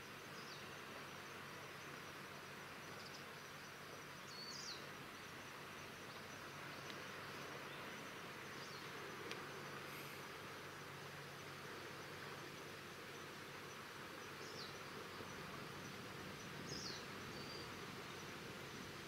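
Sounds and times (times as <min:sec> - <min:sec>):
insects trilling: 0:00.0 - 0:19.0
steady hiss: 0:00.0 - 0:19.0.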